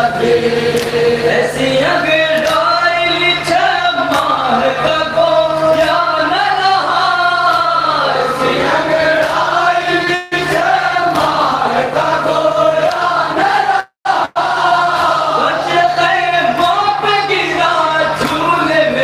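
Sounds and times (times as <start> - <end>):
men chanting through loudspeakers: 0.0 - 19.0
steady low hum: 0.0 - 19.0.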